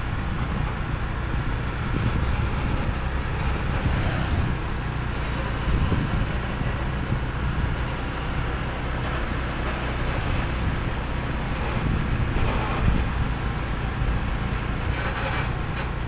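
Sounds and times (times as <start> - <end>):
vehicle engine and tyre rumble: 0.0 - 16.0.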